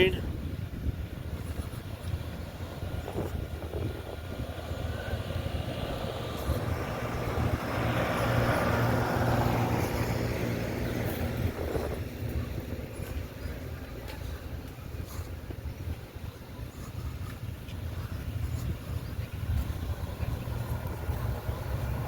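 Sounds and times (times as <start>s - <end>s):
engine noise: 0.0s - 22.0s.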